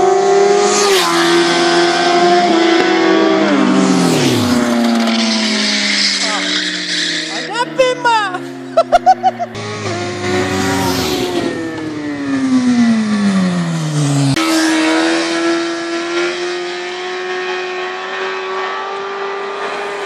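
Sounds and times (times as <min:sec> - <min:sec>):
motorcycle engine revving high: 0:00.0 - 0:20.0.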